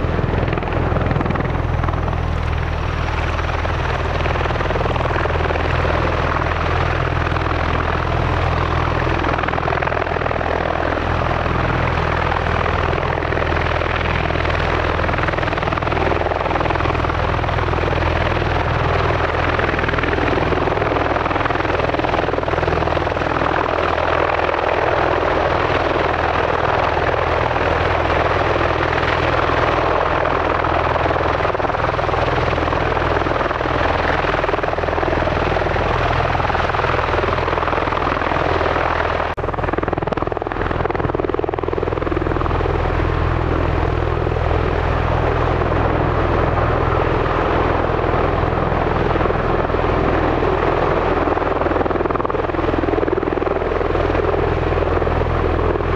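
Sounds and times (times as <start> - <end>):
aircraft rotor noise: 0.0 - 55.9.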